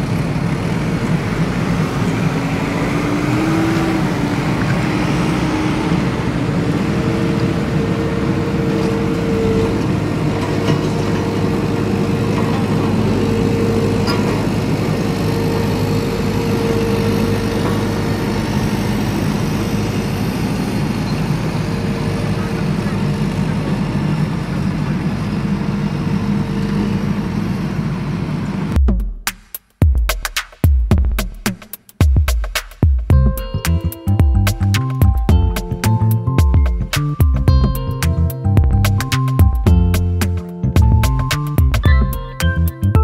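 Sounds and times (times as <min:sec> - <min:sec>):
heavy vehicle engine running: 0:00.0 - 0:28.8, 0:33.1 - 0:43.0.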